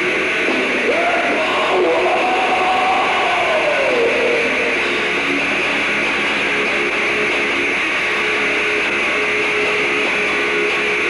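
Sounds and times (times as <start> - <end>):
electric guitar sustained notes: 0.0 - 11.0.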